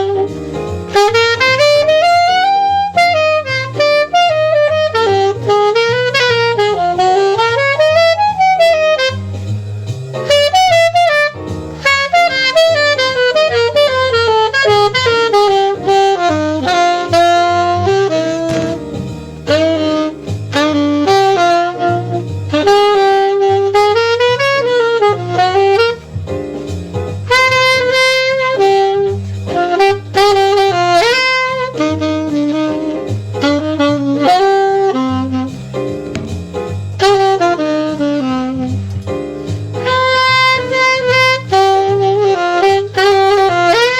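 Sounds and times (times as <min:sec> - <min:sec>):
bass line: 0:00.0 - 0:43.9
saxophone playing jazz: 0:00.0 - 0:43.9.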